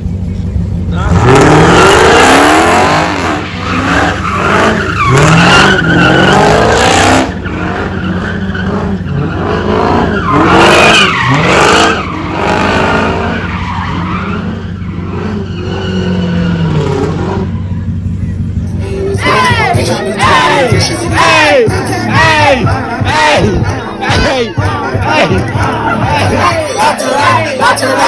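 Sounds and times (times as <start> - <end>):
car engine revving: 0.0 - 28.0
car tires squealing: 0.8 - 28.0.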